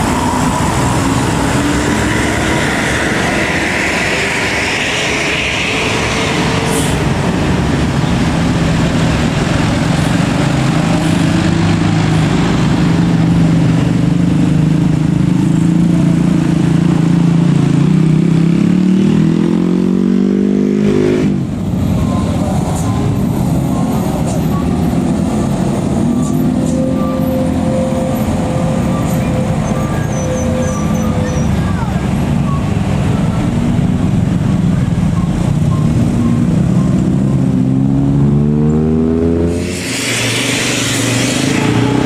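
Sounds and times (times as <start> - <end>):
heavy vehicle engine revving: 0.0 - 42.0.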